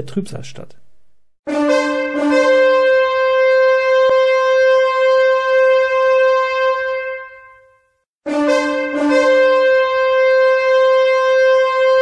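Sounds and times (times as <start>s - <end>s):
ram's horn blast: 1.4s - 12.0s.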